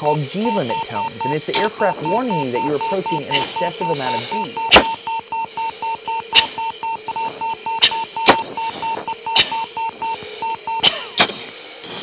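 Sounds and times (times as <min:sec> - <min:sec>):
rapid warning beeps: 0:00.0 - 0:11.2.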